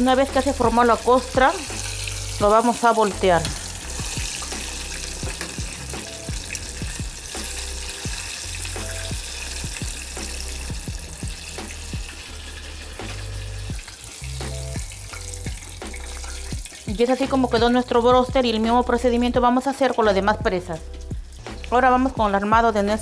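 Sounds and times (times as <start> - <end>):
chicken deep-frying in oil: 0.0 - 19.0
soft background music: 0.0 - 23.0.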